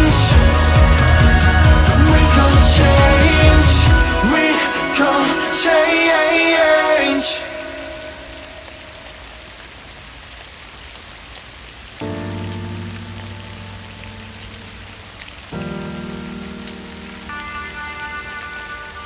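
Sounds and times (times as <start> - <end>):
slow sustained music chords: 0.0 - 9.0, 12.0 - 19.0
steady rain: 0.0 - 19.0.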